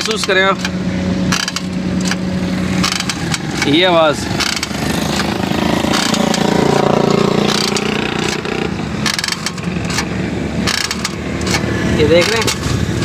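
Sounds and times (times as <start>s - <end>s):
sharp clicks: 0.0s - 12.9s
brakes creaking: 0.0s - 13.0s
car engine: 0.0s - 13.0s
road noise: 0.0s - 13.0s.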